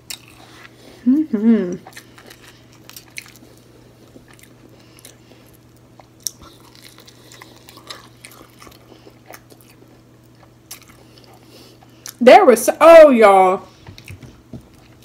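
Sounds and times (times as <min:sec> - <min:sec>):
chewing crunchy fried food: 0:00.0 - 0:01.0, 0:01.8 - 0:12.2, 0:13.7 - 0:15.0
steady low hum: 0:00.0 - 0:15.0.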